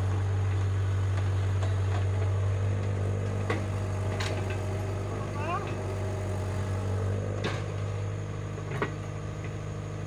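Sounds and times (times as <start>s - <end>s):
excavator digging: 0.0s - 10.0s
heavy diesel engines running: 0.0s - 10.0s.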